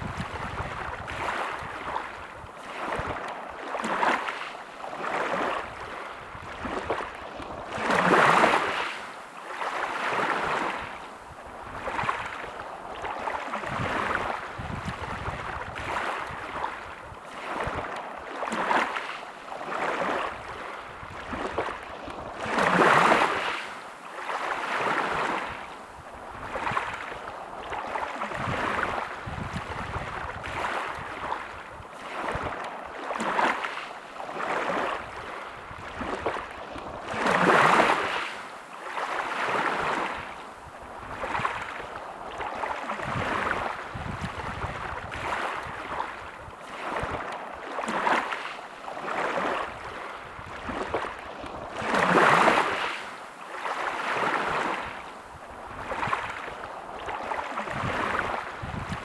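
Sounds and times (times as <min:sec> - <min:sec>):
sea waves washing onto beach: 0:00.0 - 0:59.0.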